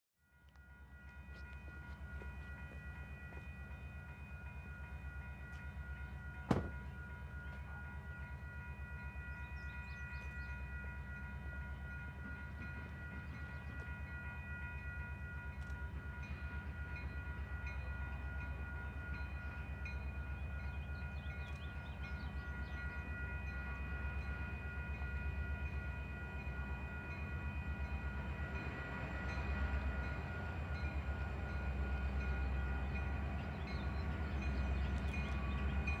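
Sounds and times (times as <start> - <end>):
crossing warning bell ringing: 0.2 - 36.0
diesel locomotive rumble: 1.0 - 36.0.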